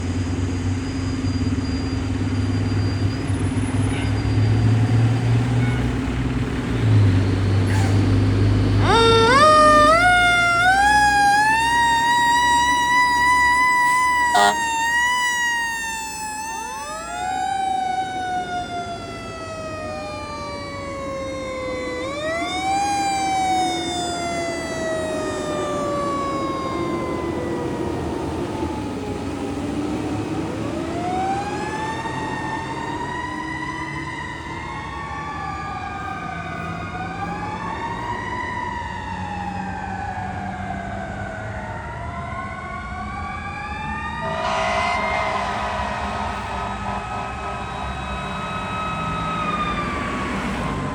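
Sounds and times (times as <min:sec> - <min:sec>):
fire truck sirens wailing: 0:00.0 - 0:50.9
truck engines running: 0:00.0 - 0:50.9.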